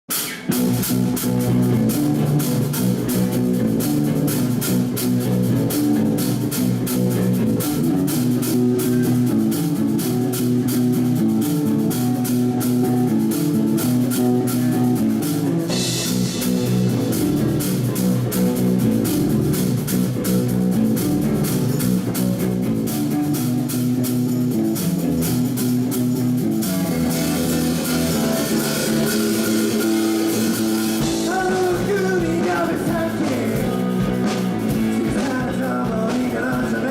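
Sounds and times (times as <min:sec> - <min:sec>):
bass guitar: 0:00.0 - 0:36.9
drum kit beat: 0:00.1 - 0:36.9
electric guitar riff: 0:00.1 - 0:36.9.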